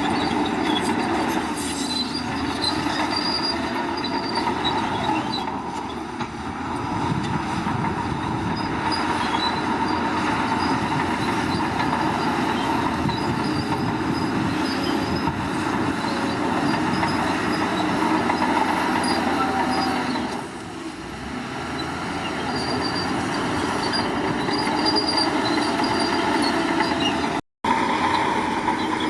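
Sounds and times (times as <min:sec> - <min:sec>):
steel tracks squealing and clanking: 0:00.0 - 0:21.0, 0:21.6 - 0:29.0
diesel engine running: 0:00.0 - 0:29.0.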